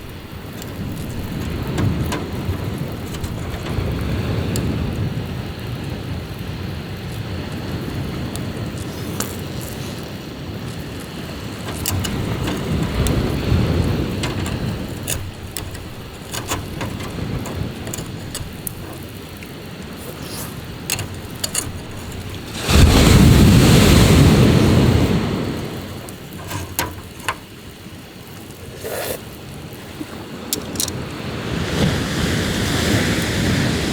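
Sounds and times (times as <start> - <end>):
sea waves washing ashore: 0.0 - 33.9.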